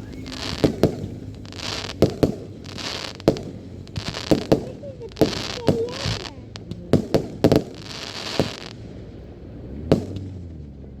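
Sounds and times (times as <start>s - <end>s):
fireworks bangs: 0.0s - 10.6s
hissing crackle of firework: 0.0s - 10.6s.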